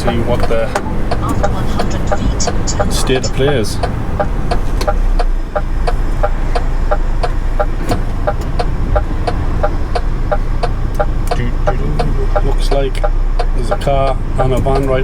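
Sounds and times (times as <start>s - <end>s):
lorry engine rumble: 0.0s - 15.0s
turn indicator ticking: 0.0s - 15.0s.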